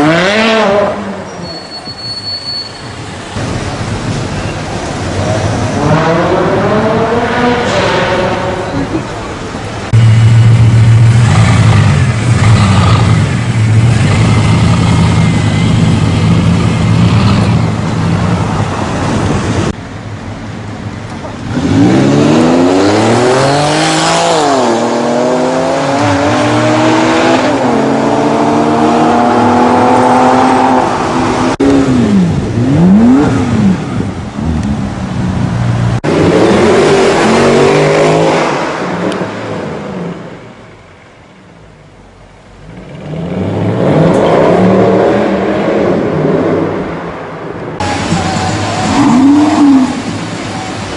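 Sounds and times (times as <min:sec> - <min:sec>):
car engines revving: 0:00.0 - 0:01.5, 0:03.0 - 0:50.9.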